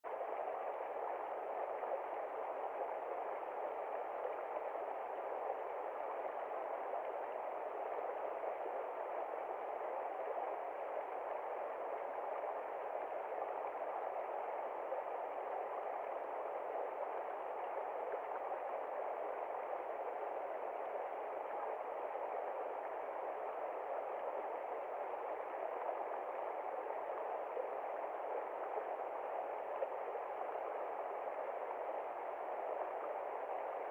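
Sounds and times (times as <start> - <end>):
stream running over rocks: 0.1 - 33.9.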